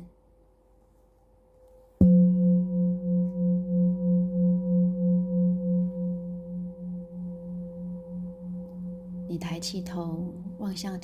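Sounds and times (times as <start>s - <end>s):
singing bowl ringing: 2.0s - 11.0s.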